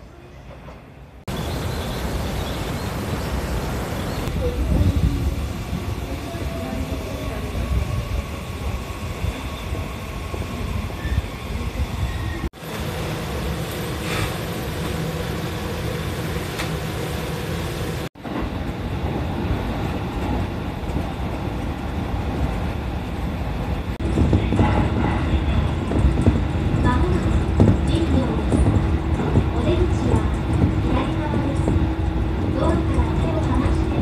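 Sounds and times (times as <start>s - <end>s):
train rumble: 0.0s - 34.0s.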